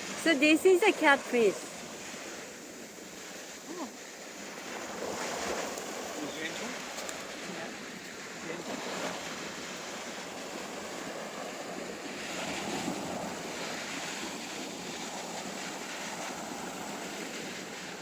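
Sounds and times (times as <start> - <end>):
surf washing on beach: 0.0 - 18.0
wind on microphone: 0.0 - 18.0.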